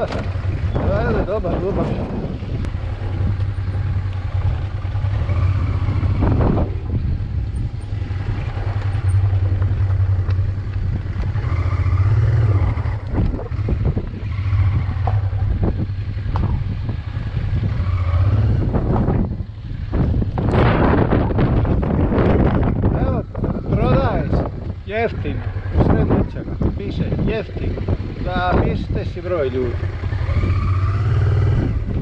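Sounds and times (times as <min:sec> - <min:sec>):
motorcycle engine droning: 0:00.0 - 0:32.0.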